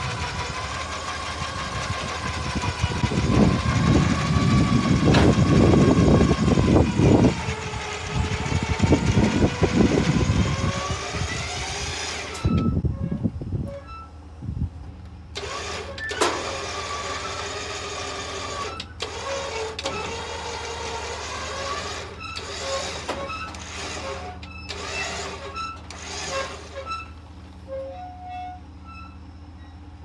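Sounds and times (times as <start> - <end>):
harsh mechanical whirring: 0.0 - 13.7, 15.3 - 27.6
vehicle engine idling: 0.0 - 28.0.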